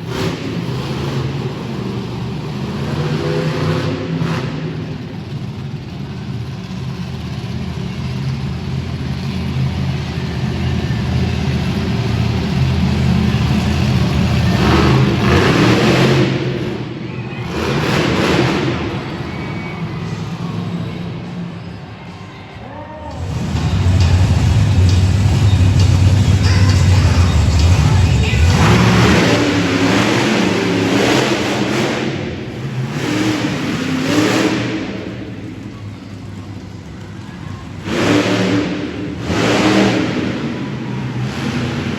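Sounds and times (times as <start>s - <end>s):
monster truck engine revving: 0.0s - 22.2s, 23.1s - 41.9s.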